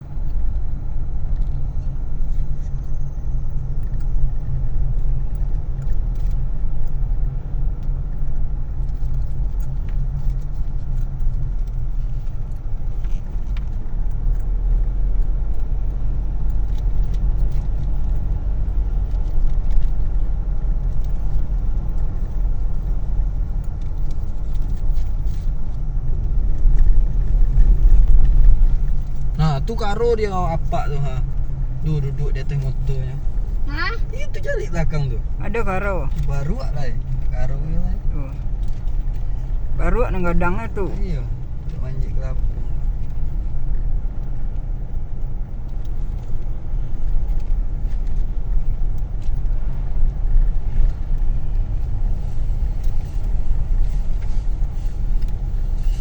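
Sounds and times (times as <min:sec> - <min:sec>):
car rumbling on the move: 0:00.0 - 0:56.0.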